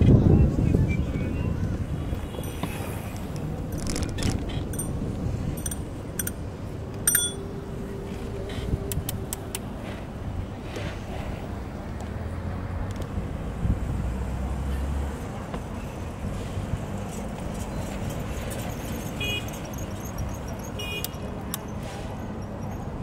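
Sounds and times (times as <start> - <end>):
passing vehicles: 0.0 - 23.0.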